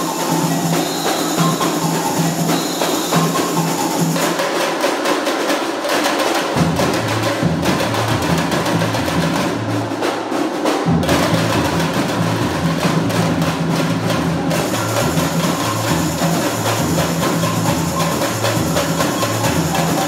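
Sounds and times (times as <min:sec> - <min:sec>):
samba percussion band drumming: 0:00.0 - 0:20.0.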